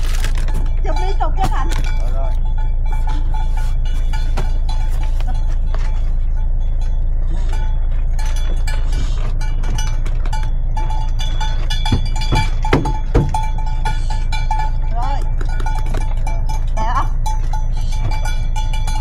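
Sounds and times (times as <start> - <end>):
cattle bells clanking: 0.0 - 19.0
steady low rumble: 0.0 - 19.0.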